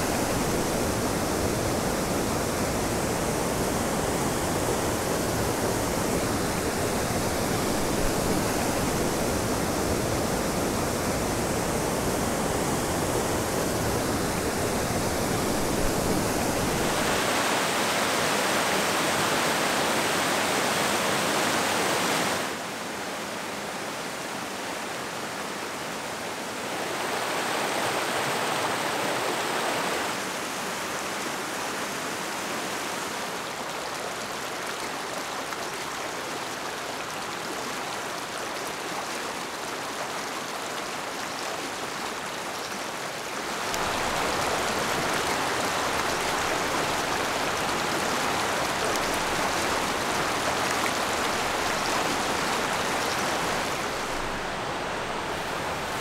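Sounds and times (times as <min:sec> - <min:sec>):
waterfall rushing: 0:00.0 - 0:22.7, 0:32.2 - 0:56.0.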